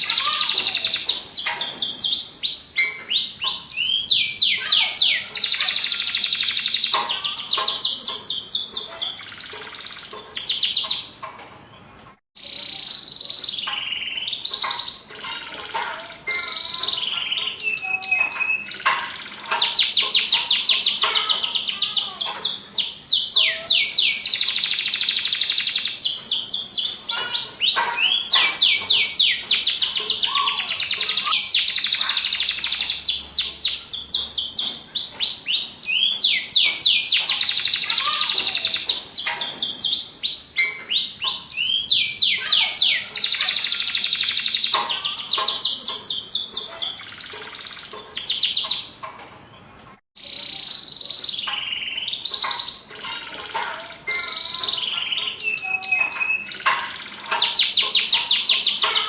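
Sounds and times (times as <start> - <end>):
canary singing rapid trills: 0.0 - 11.3, 12.4 - 49.1, 50.2 - 59.0.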